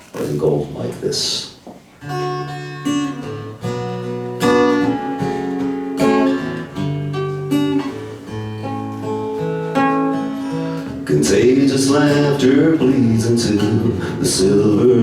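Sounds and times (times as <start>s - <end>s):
acoustic guitar strumming chords: 2.0s - 15.0s.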